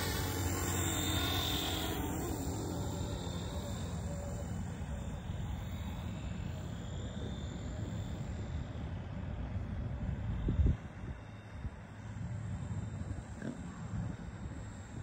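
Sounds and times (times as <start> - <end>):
model helicopter whir: 0.0 - 15.0.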